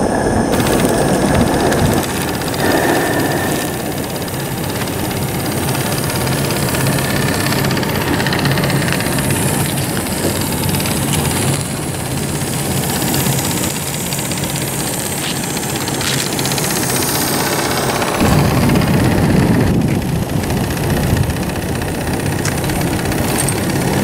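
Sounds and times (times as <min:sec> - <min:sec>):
small steam engine running: 0:00.0 - 0:24.0.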